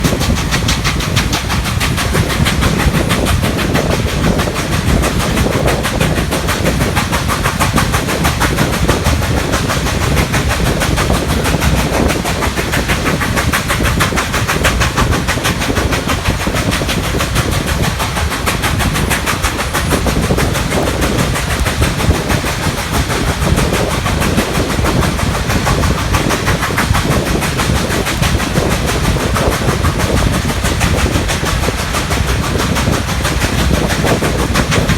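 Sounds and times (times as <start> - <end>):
steam locomotive exhaust chuffs: 0.0 - 34.9
train clattering: 0.0 - 34.9.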